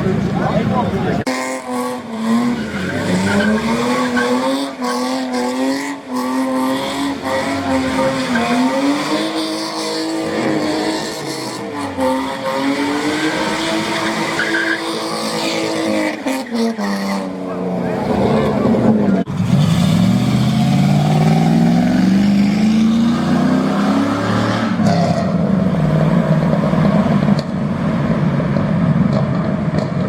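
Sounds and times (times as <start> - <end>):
car engine revving high: 1.2 - 27.4.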